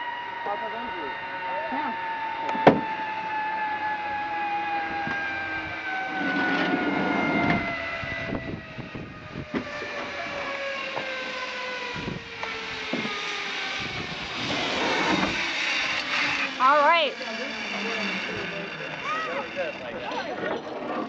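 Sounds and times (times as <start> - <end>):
zipline pulleys whining on cable: 0.0 - 21.0.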